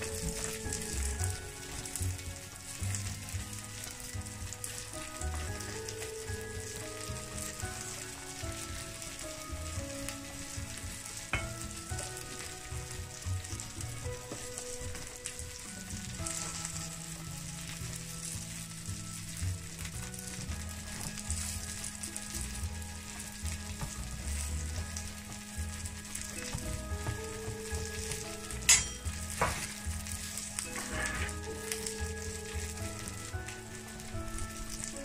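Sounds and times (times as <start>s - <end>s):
food sizzling on a grill pan: 0.0s - 35.0s.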